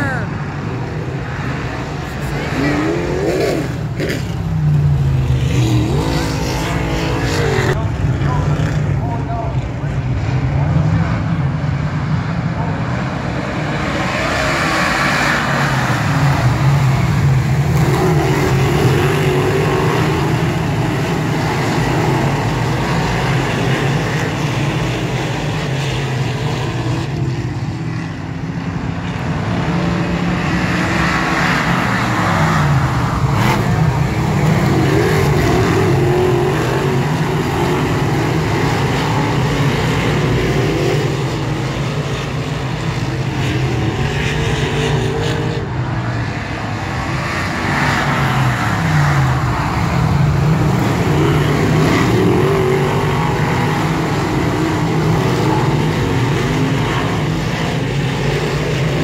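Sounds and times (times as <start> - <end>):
race car engines running hard: 0.0 - 59.0.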